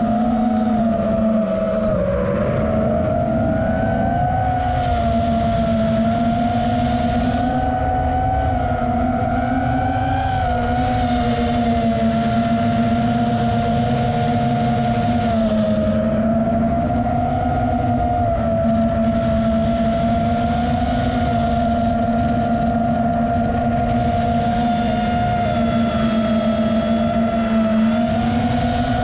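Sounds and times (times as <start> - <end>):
drone motors whining: 0.0 - 29.0
wind noise: 0.0 - 29.0.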